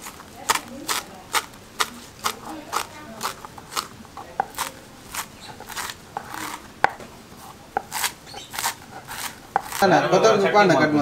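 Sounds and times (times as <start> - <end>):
knife chopping on wooden board: 0.0 - 9.8.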